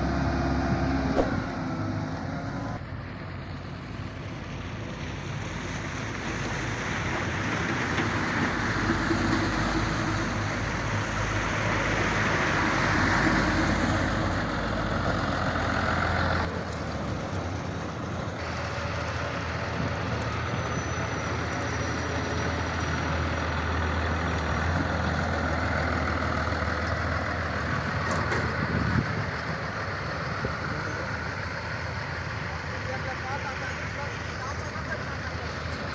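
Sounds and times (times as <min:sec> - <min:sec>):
road roller diesel engine: 0:00.0 - 0:35.9.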